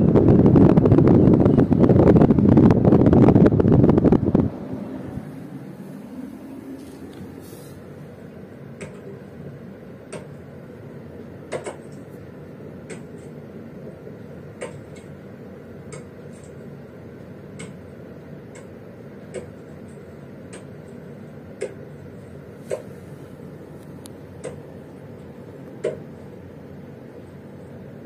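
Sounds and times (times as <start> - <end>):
air conditioner running: 0.0 - 28.0.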